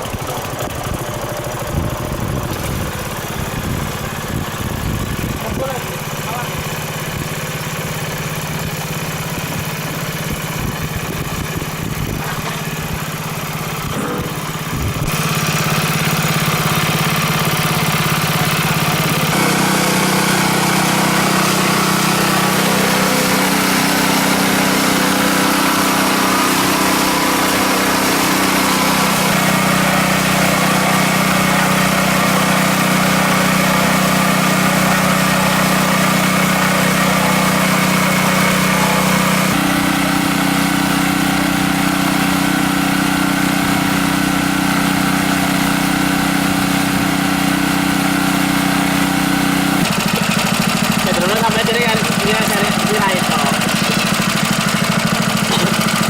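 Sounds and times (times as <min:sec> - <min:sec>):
earth auger engine running: 0:00.0 - 0:56.0.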